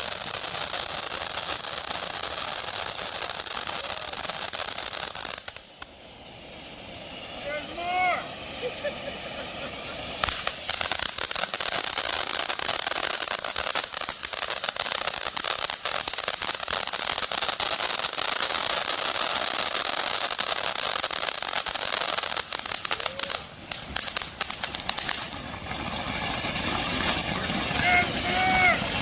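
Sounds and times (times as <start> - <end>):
firework crackling: 0.0 - 29.0.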